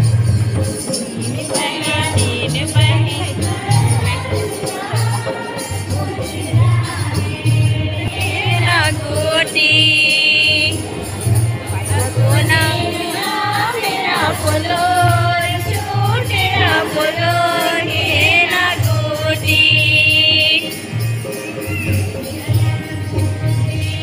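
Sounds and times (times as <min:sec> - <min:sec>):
jingling percussion: 0:00.0 - 0:24.0
steady drum beat: 0:00.0 - 0:24.0
congregation singing a hymn: 0:01.5 - 0:20.8.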